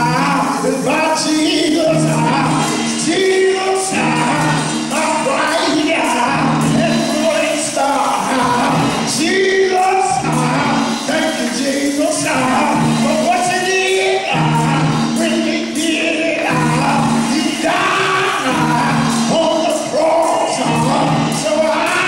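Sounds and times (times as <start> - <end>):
organ chords: 0.0 - 22.0
preacher chanting sermon: 0.0 - 22.0.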